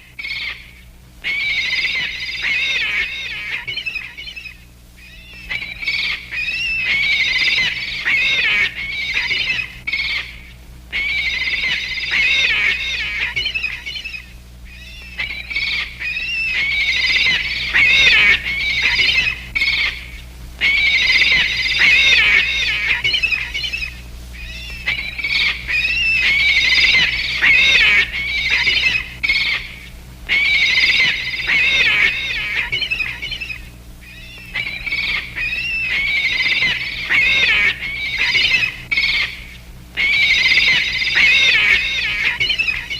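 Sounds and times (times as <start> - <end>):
cartoon seagull squawking: 0.0 - 42.9
faint low hum: 0.0 - 42.9.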